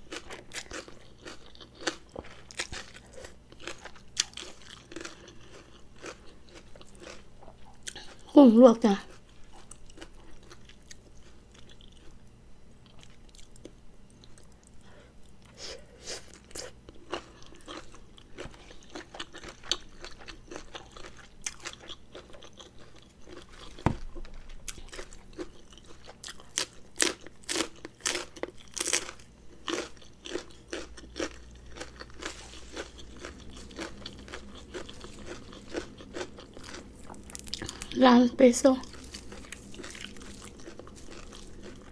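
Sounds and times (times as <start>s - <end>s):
person chewing and crunching food: 0.0s - 41.9s.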